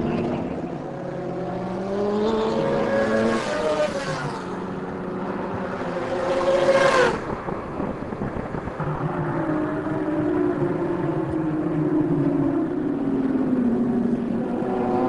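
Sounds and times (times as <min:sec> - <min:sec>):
motorcycle passing close: 0:00.0 - 0:07.4, 0:08.8 - 0:15.0
racing motorcycles accelerating: 0:00.0 - 0:07.4, 0:08.0 - 0:15.0.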